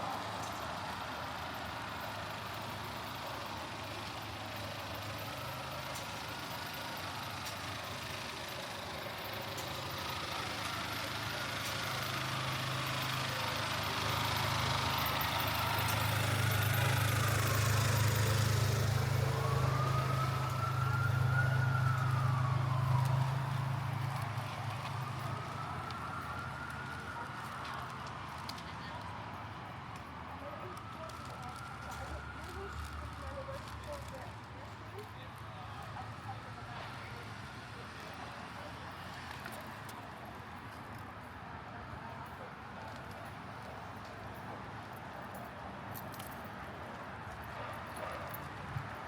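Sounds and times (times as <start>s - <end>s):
distant siren wailing: 0.0s - 39.8s
heavy vehicle engine running: 0.0s - 40.7s
street traffic: 0.0s - 49.0s.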